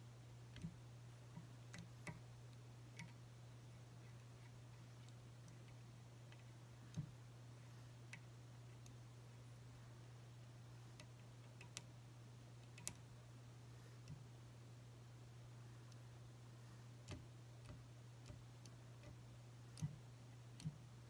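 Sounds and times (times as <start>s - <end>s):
steady low hum: 0.0s - 21.0s
faint ticks and clicks: 0.5s - 13.2s, 13.8s - 14.3s, 15.8s - 21.0s.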